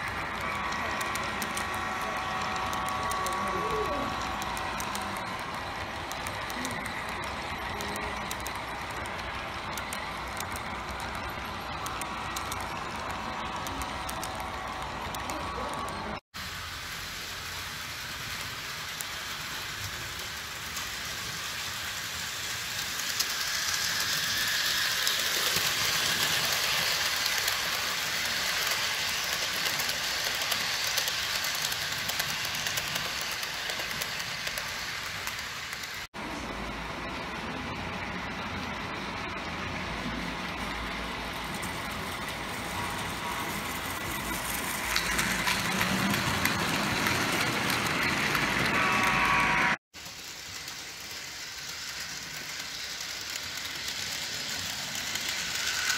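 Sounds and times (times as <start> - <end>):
model train wheels on rail: 0.0 - 55.9.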